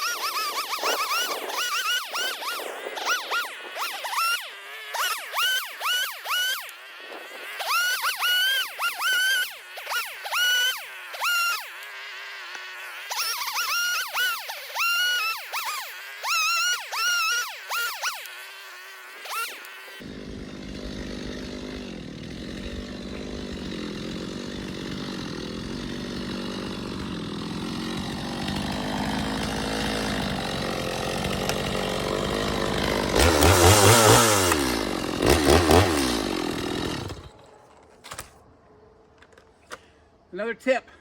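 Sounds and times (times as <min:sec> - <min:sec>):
chainsaw running and revving: 0:00.0 - 0:37.4.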